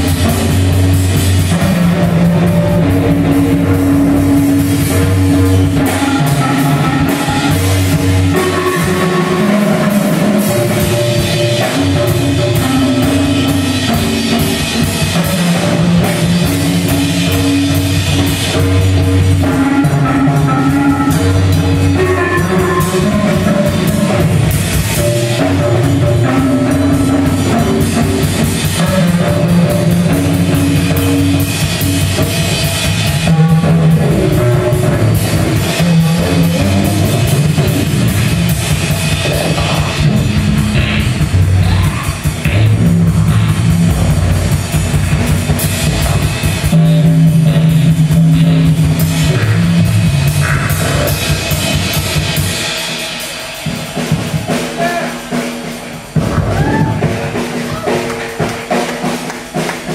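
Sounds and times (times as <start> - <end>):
drum kit steady beat: 0.0 - 59.9
live band playing: 0.0 - 59.9.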